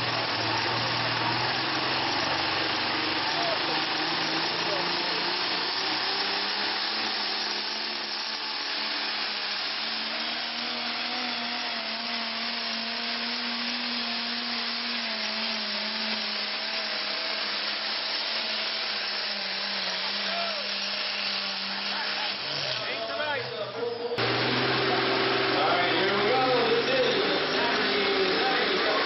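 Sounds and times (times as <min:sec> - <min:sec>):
high turbo whine: 0:00.0 - 0:29.0
tractor diesel engine under load: 0:00.0 - 0:29.0.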